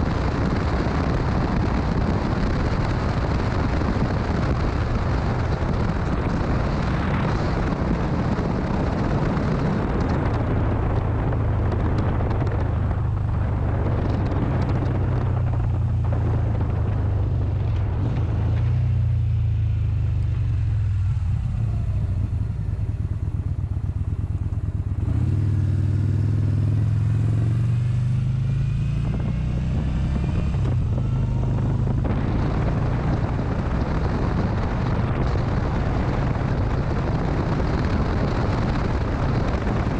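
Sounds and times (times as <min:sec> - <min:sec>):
motorcycle engine droning: 0:00.0 - 0:39.9
wind rushing over microphone: 0:00.0 - 0:39.9.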